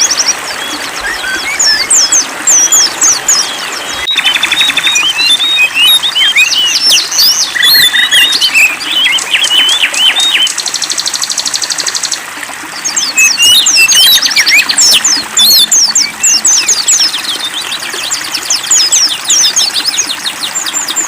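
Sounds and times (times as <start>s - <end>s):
songbirds singing and chirping: 0.0s - 21.0s.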